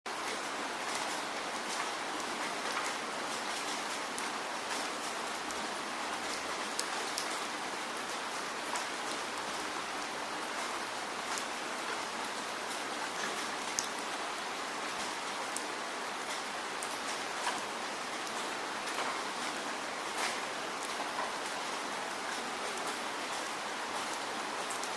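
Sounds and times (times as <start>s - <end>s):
raindrops ticking close by: 0.1s - 24.9s.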